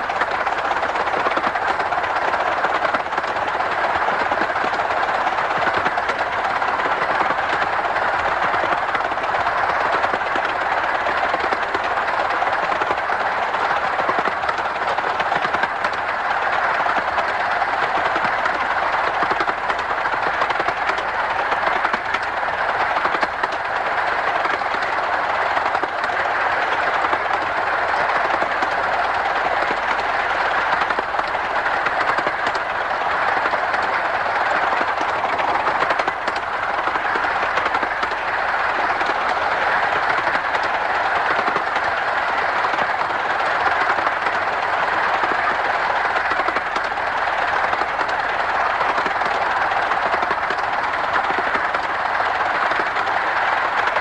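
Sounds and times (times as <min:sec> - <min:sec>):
steam locomotive running: 0:00.0 - 0:54.0
wheels on rails: 0:00.0 - 0:54.0.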